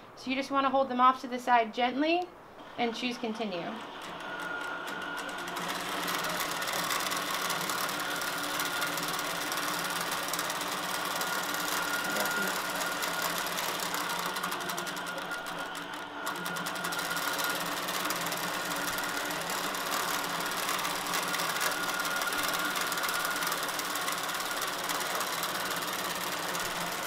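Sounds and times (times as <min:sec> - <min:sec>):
quilting machine stitching: 0:02.6 - 0:27.0.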